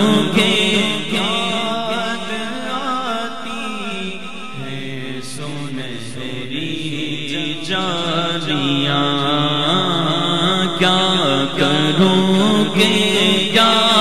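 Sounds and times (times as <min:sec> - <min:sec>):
man chanting into microphone: 0:00.0 - 0:14.0.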